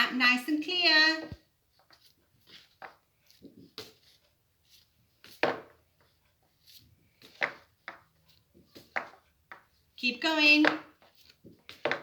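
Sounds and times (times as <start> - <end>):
rubbing sounds: 0.7 - 12.0.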